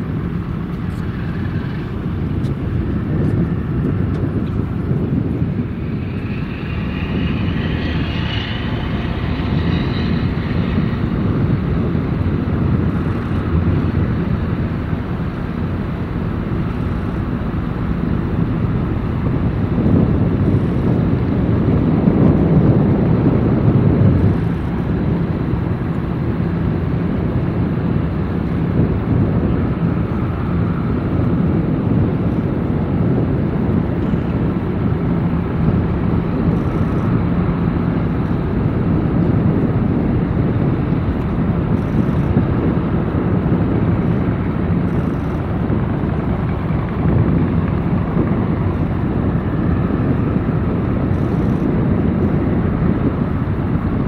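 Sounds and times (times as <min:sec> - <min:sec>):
faint boat engine drone: 0:00.0 - 0:54.0
wind buffeting microphone: 0:00.0 - 0:54.0.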